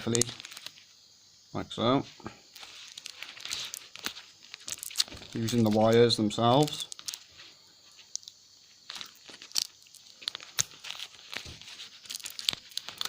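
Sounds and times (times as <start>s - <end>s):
tape and plastic crinkling: 0.0s - 0.9s, 2.5s - 13.0s.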